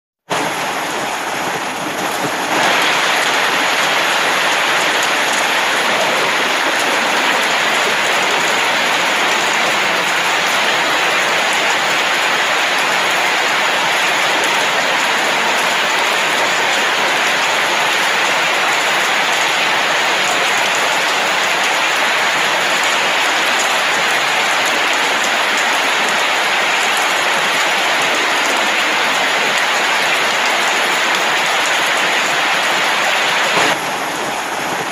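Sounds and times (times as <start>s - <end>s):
steady rain: 0.2s - 34.9s.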